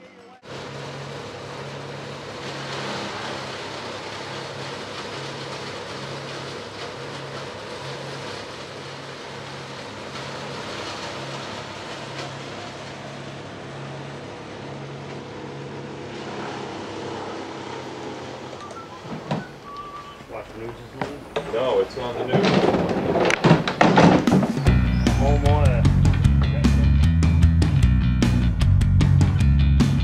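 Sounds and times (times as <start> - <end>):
large engine running: 0.0 - 22.2, 24.7 - 30.0.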